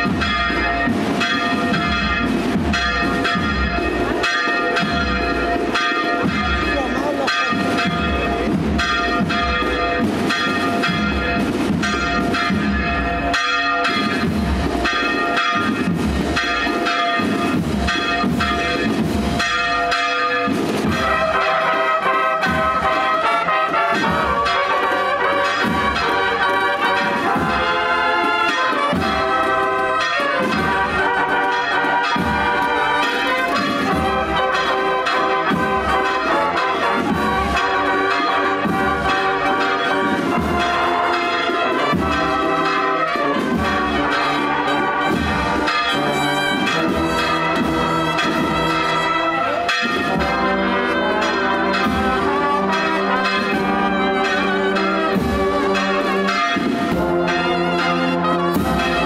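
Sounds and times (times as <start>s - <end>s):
brass band playing: 0.0s - 59.0s
church bells pealing: 0.0s - 59.0s.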